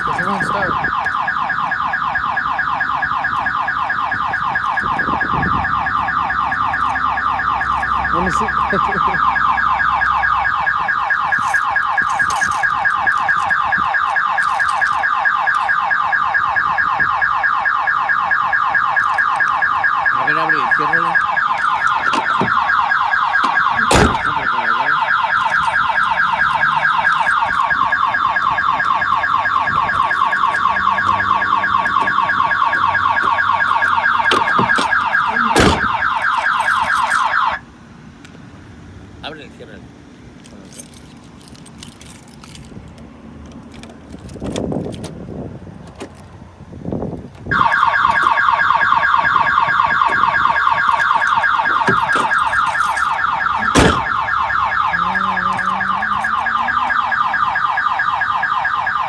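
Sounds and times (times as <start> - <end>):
car alarm siren: 0.0 - 37.7, 47.5 - 59.0.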